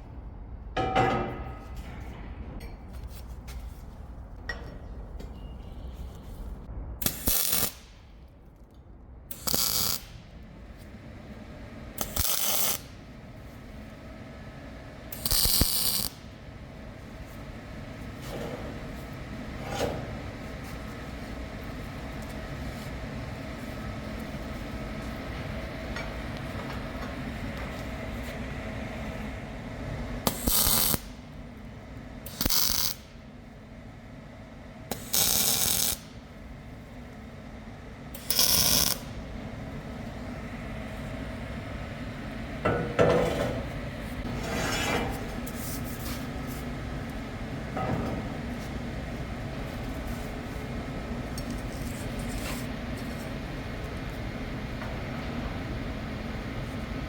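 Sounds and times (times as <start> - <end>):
workshop hum: 0.0 - 57.0.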